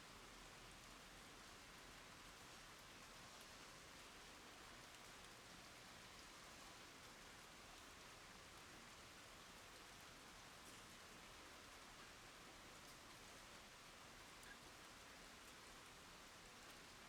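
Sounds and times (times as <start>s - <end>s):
rain on wooden boards and water: 0.0s - 17.0s.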